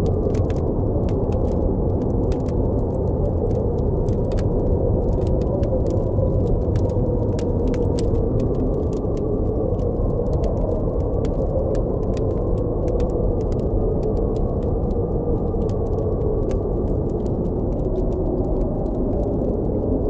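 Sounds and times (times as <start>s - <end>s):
blizzard wind howling: 0.0s - 20.0s
campfire crackling: 0.0s - 20.0s.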